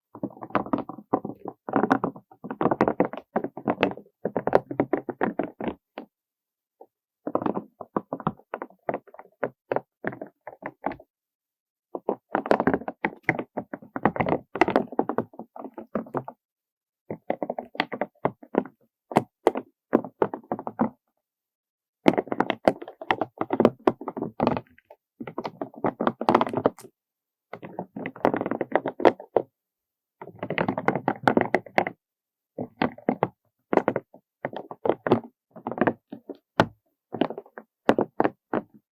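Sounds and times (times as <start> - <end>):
scratching and tapping hard items: 0.1 - 6.1, 7.2 - 11.1, 11.9 - 16.4, 17.1 - 21.0, 22.0 - 26.9, 27.5 - 29.5, 30.2 - 32.0, 32.6 - 38.8.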